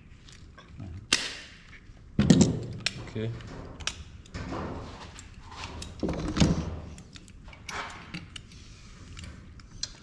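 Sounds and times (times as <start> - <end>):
clicks and knocks of tools and metal: 1.6 - 10.0.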